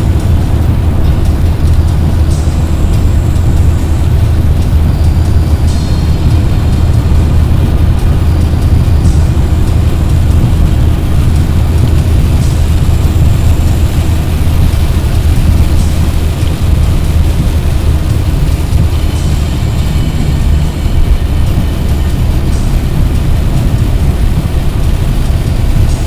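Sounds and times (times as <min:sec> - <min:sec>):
car driving on wet road: 0:00.0 - 0:26.0.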